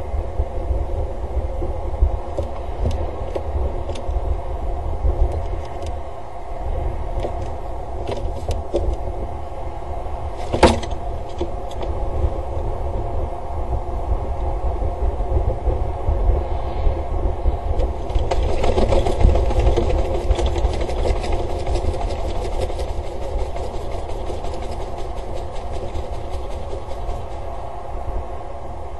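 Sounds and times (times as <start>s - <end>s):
wind and rain rumble on microphone: 0.0s - 28.9s.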